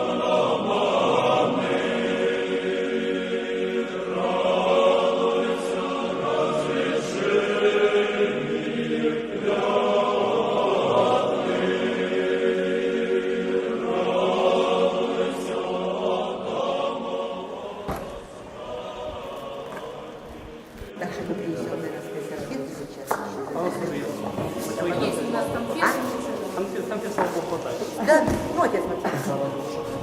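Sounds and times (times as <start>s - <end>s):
choir singing chant: 0.0s - 30.0s.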